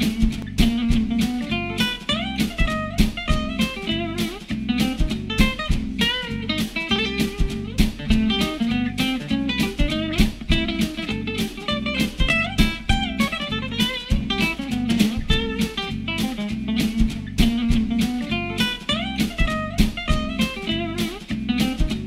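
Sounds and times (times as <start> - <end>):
guitar tune over a beat: 0.0 - 22.0.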